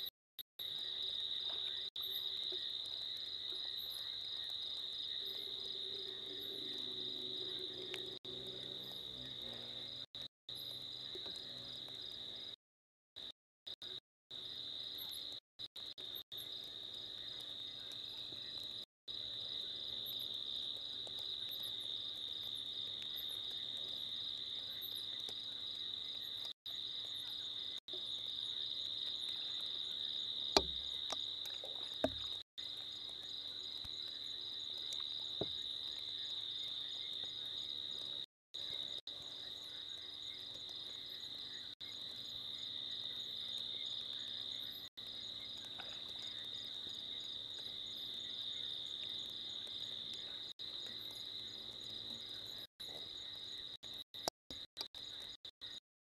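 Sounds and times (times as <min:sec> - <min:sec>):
insects trilling: 0:00.6 - 0:12.6, 0:13.8 - 0:55.8.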